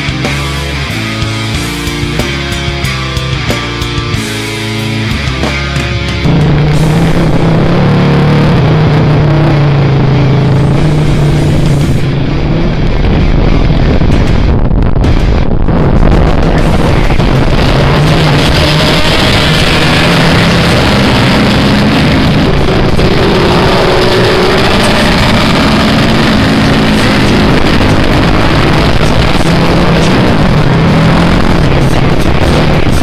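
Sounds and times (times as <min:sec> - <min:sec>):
atv engines running hard: 0:00.0 - 0:14.5, 0:16.0 - 0:33.0.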